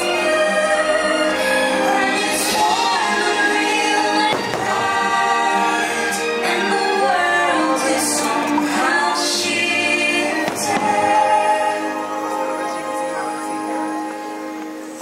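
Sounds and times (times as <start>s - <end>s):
orchestral music with choir: 0.0s - 15.0s.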